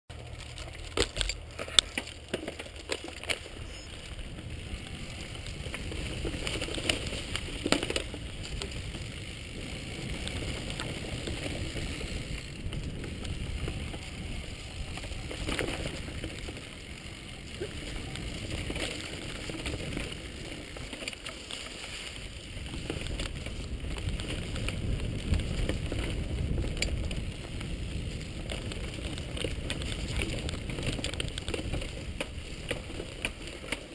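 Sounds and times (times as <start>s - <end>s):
bike knocks and rattles: 0.1s - 33.9s
bike tyres rumbling on dirt: 0.1s - 33.9s.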